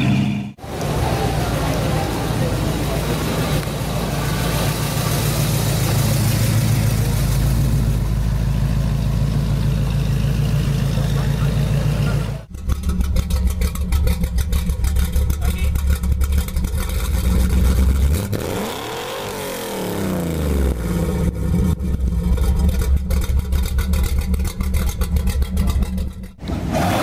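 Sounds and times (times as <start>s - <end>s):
car engine running: 0.0s - 18.7s, 19.9s - 26.5s.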